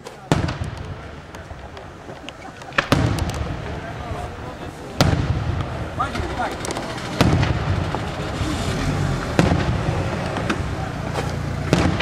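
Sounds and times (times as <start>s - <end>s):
firework shells bursting: 0.0s - 12.0s
steady low rumble: 0.6s - 12.0s.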